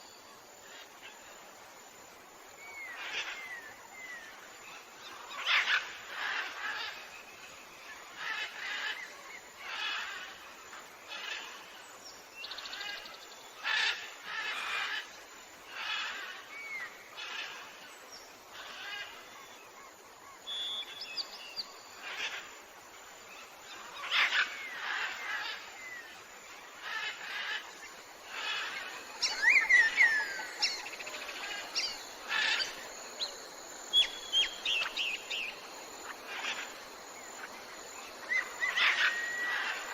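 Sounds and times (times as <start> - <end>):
forest background: 0.0 - 39.9
jungle birds calling: 2.6 - 11.8, 12.4 - 39.9.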